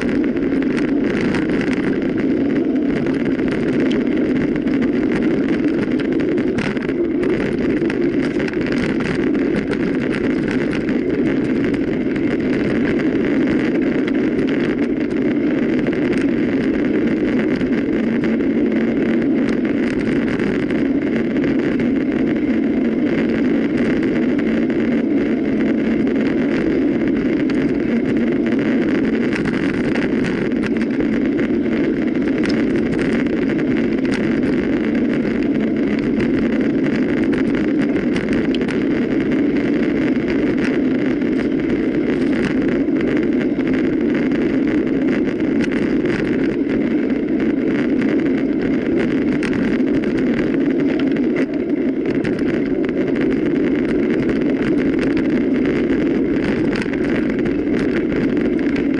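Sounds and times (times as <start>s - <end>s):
bike rattles and clicks: 0.0s - 58.9s
bike tyres rushing over ground: 0.0s - 58.9s.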